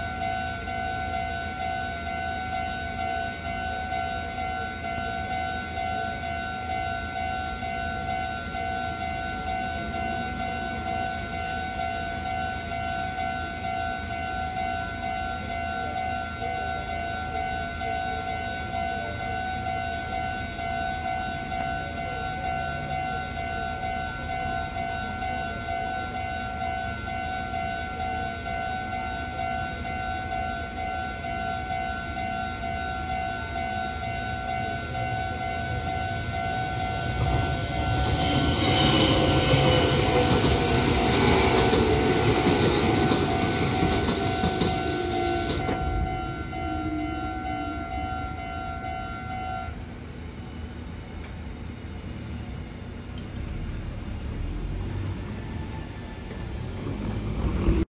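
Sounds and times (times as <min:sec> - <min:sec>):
level-crossing warning alarm: 0:00.0 - 0:53.0, 0:53.8 - 0:57.8
electric train passing: 0:00.0 - 0:57.9.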